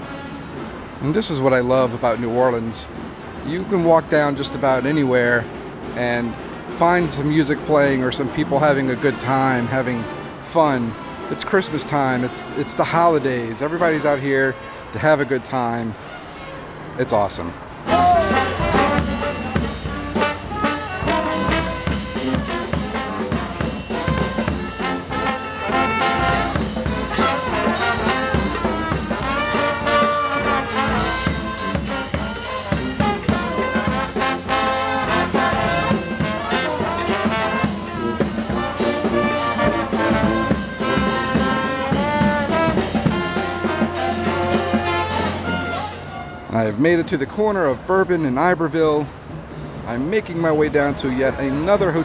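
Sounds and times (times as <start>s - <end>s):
brass band playing jazz: 0.0s - 16.9s, 17.6s - 46.6s, 51.2s - 52.0s.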